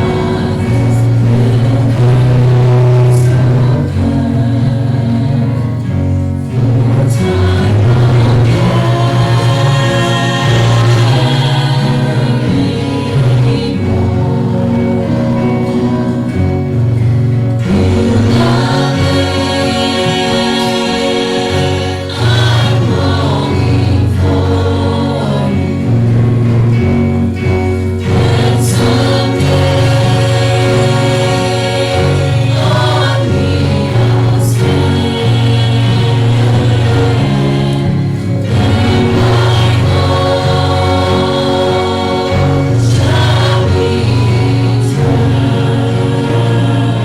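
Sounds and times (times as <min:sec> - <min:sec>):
group singing a gospel hymn: 0:00.0 - 0:47.0
instrumental accompaniment: 0:00.0 - 0:47.0.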